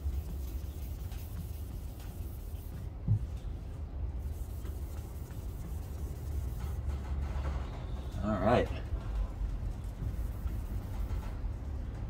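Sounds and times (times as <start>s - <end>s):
hand sanding painted metal: 0.0s - 8.7s, 9.6s - 12.0s.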